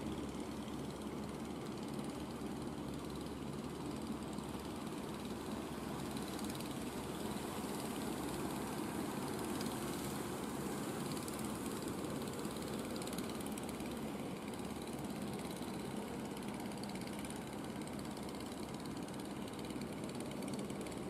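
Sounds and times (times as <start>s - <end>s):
fishing boat engines droning: 0.0s - 21.0s.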